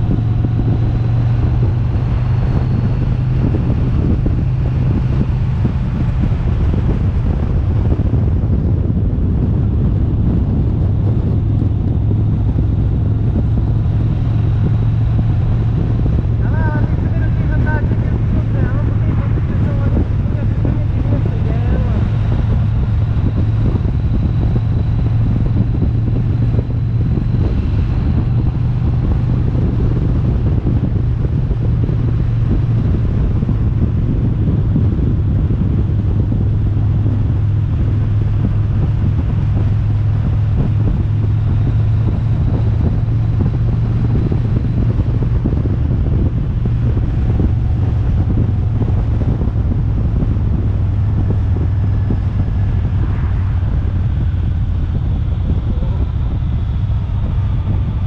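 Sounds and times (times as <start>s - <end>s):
road and wind noise: 0.0s - 58.0s
vehicle engine drone: 0.0s - 58.0s.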